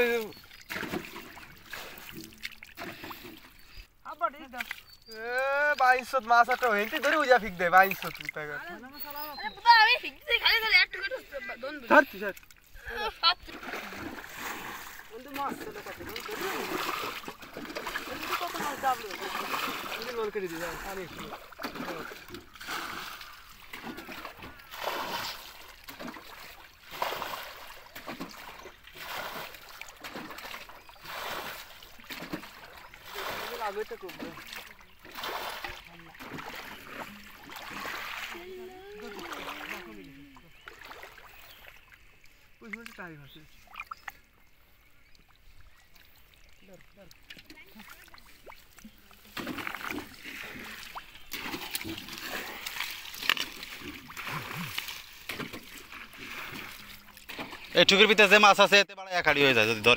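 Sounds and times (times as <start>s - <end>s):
water splashing from bailing: 0.0s - 59.9s.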